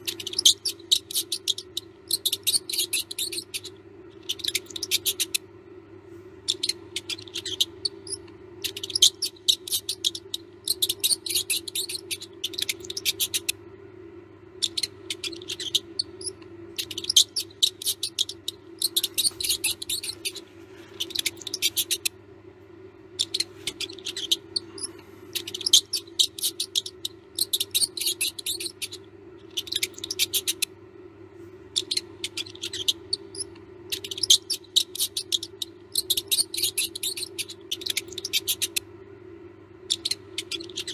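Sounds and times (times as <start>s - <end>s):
mouse squeaking: 0.0s - 5.5s, 6.4s - 13.6s, 14.5s - 22.2s, 23.0s - 30.8s, 31.7s - 38.8s, 39.8s - 40.9s
steady low hum: 0.0s - 40.9s.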